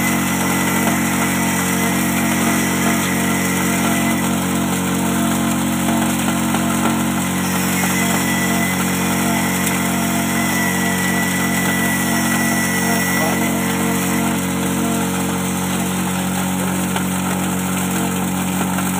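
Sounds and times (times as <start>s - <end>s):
electric grinder running: 0.0s - 18.9s.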